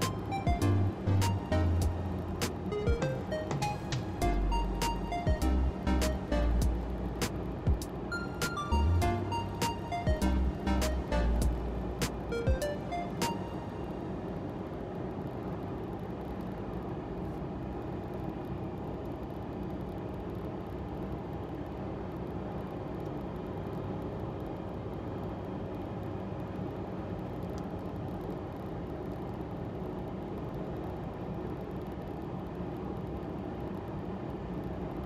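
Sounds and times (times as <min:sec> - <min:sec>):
engine and road noise: 0:00.0 - 0:35.0.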